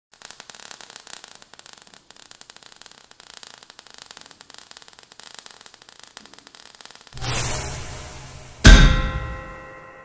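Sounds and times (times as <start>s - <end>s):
crackling hissing sparks: 0.1s - 9.7s.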